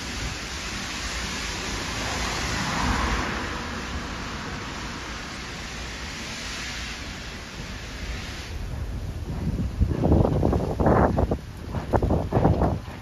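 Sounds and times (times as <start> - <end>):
air rushing past: 0.0 - 13.0
train wheels on rails: 0.0 - 13.0.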